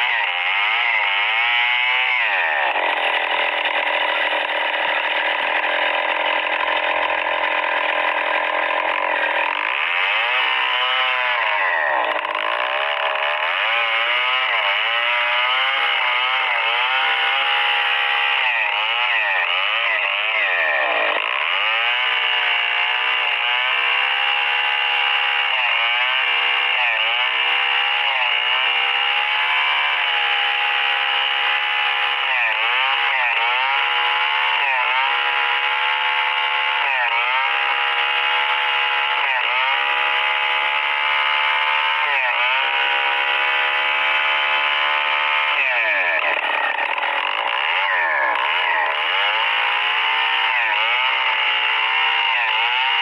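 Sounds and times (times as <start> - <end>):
chainsaw cutting a log: 0.0 - 53.0.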